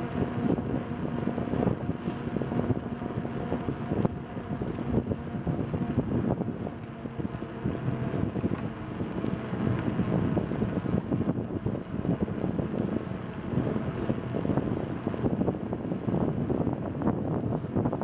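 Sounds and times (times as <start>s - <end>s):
bicycle rattles and crackles: 0.0s - 18.0s
wind buffeting microphone: 0.0s - 18.0s.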